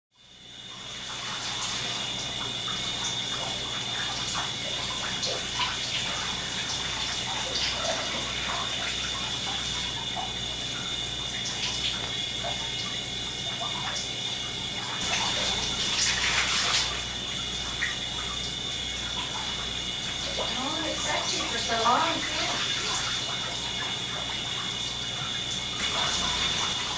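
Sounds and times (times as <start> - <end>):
shower spraying on wet clothing: 0.4 - 26.9
water dripping: 0.5 - 26.9.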